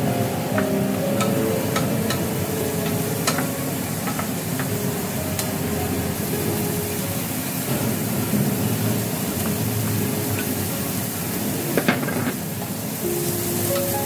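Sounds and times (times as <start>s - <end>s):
onion sizzling in oil: 0.0s - 14.0s.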